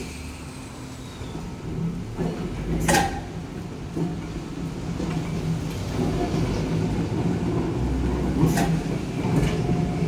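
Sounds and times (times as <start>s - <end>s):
tram wheels rumbling: 0.0s - 10.0s
wheels clacking over rail joints: 1.6s - 10.0s.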